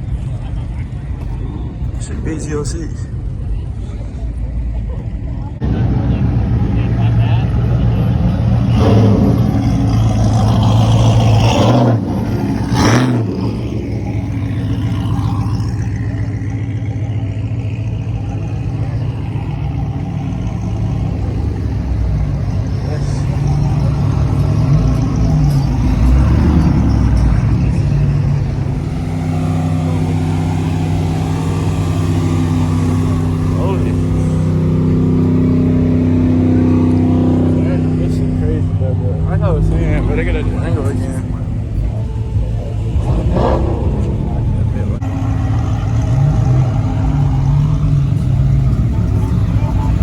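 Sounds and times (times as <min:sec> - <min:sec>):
car engine idling: 0:00.0 - 0:50.0
engine throttle blips: 0:00.0 - 0:50.0.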